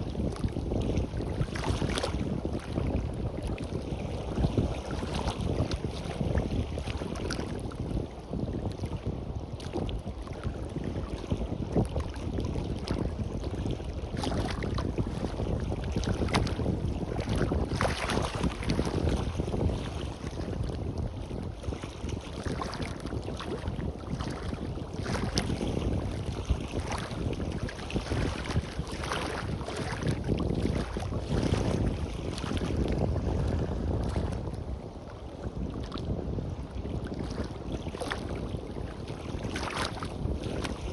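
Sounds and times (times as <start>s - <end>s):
sea waves washing on beach: 0.0s - 40.9s
wind buffeting microphone: 0.0s - 40.9s.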